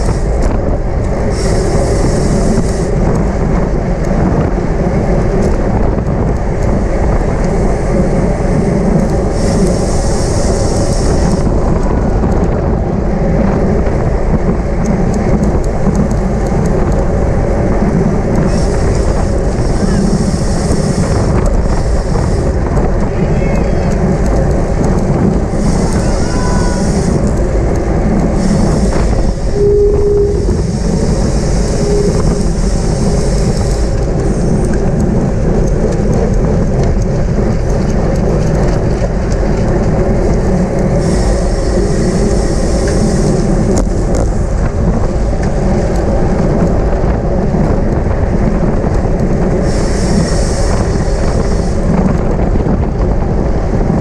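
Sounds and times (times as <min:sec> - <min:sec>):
wind and road noise from bicycle: 0:00.0 - 0:54.0.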